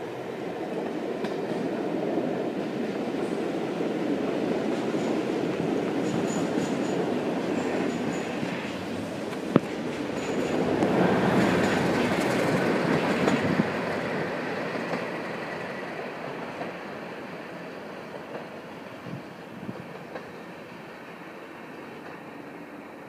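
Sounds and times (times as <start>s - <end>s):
diesel locomotive engine: 0.0s - 23.0s
train wheels on rails: 0.0s - 23.0s.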